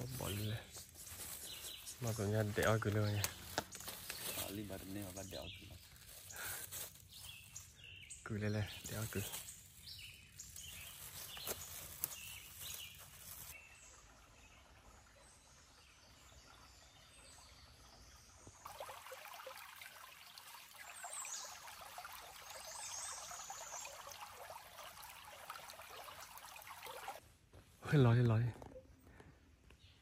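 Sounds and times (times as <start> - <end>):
creek running over stones: 0.0 - 27.3.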